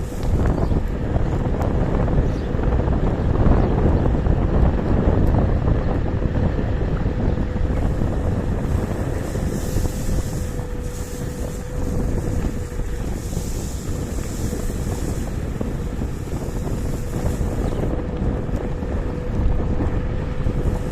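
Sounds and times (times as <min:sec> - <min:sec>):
electric motor hum: 0:00.0 - 0:20.9
wind rumbling on microphone: 0:00.0 - 0:20.9.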